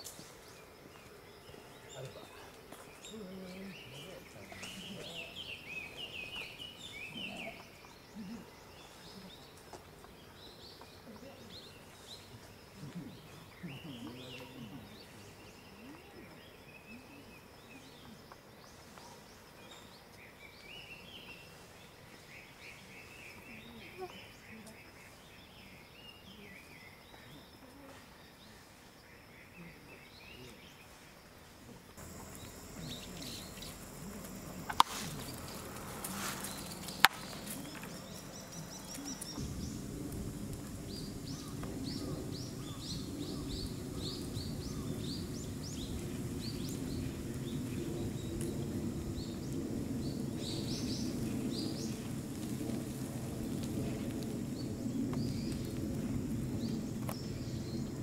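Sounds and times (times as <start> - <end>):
birds chirping: 0.0 - 31.0, 31.6 - 58.0.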